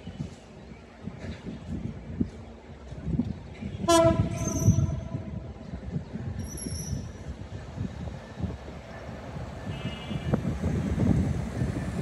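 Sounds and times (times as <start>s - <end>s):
diesel train rumble: 0.0s - 12.0s.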